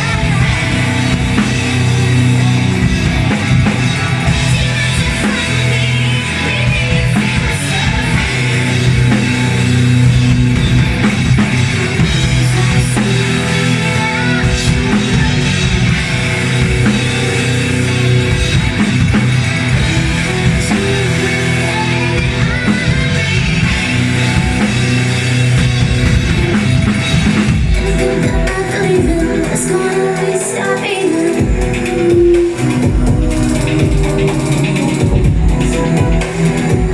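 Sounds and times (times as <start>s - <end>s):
person singing: 0.0s - 17.7s, 19.6s - 24.9s, 26.3s - 36.9s
rock band playing live: 0.0s - 36.9s.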